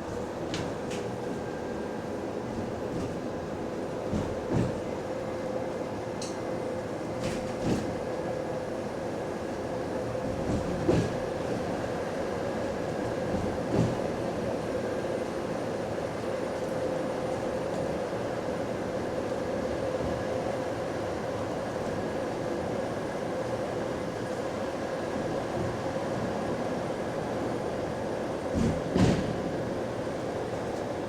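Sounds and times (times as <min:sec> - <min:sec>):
bus drivetrain and road noise: 0:00.0 - 0:31.0.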